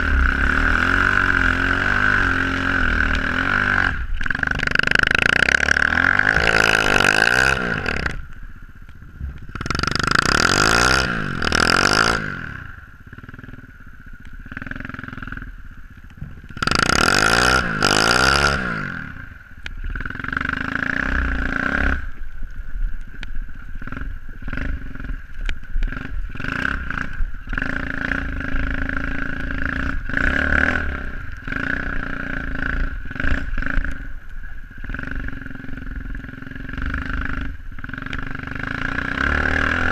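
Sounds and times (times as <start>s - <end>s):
motorbike engine revving: 0.0s - 22.3s, 23.4s - 39.9s.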